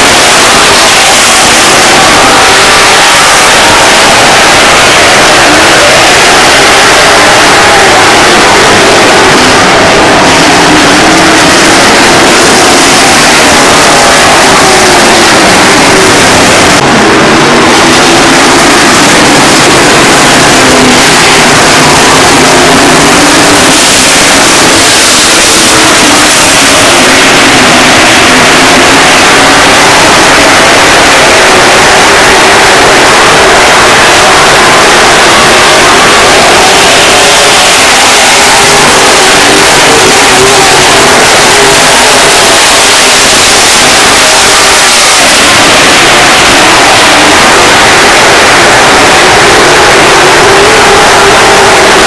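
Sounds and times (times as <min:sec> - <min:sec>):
race car engines roaring: 0:00.0 - 0:52.0.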